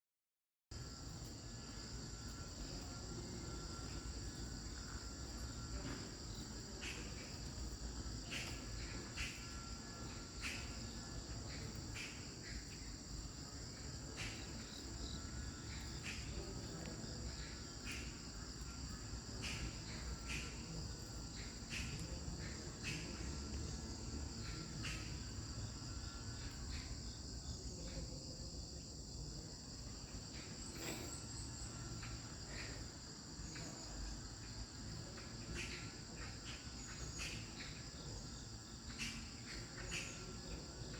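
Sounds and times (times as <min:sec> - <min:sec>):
crickets trilling: 0:00.7 - 0:40.9.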